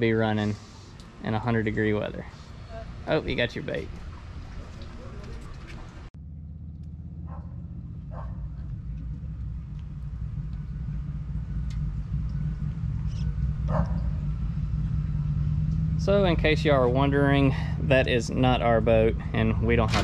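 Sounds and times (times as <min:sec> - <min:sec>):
low motor hum: 0:00.0 - 0:20.0.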